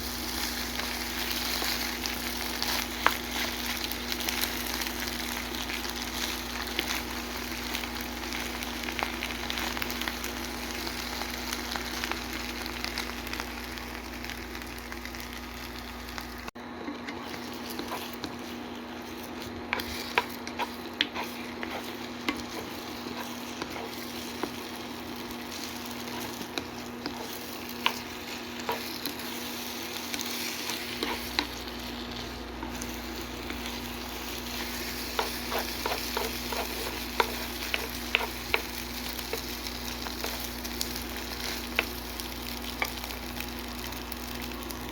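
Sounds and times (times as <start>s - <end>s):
rice sizzling in a pan: 0.0s - 44.9s
steady low hum: 0.0s - 44.9s.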